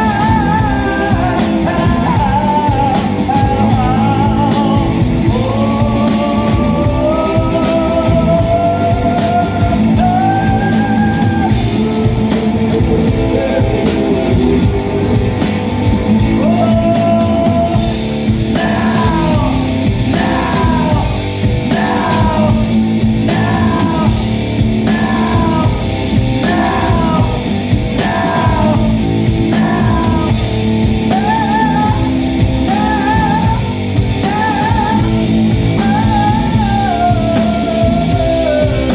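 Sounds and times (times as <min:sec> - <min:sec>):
bass guitar: 0:00.0 - 0:38.9
drums: 0:00.0 - 0:38.9
electric guitar: 0:00.0 - 0:38.9
person singing: 0:00.0 - 0:38.9.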